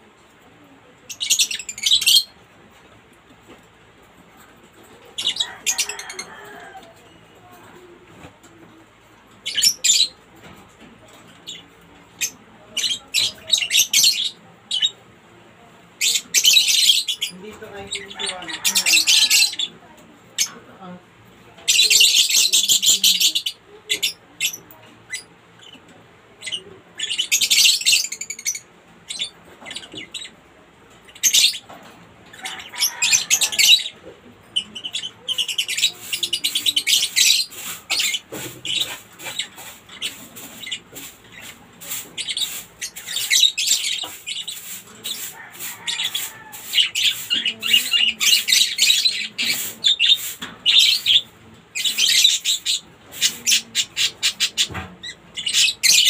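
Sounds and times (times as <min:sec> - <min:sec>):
lovebirds chirping and squawking: 0:00.9 - 0:02.5, 0:03.5 - 0:15.0, 0:15.9 - 0:56.0.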